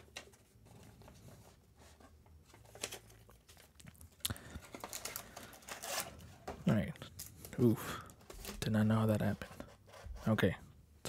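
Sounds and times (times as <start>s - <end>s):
rustling of paper cards: 0.0s - 10.6s.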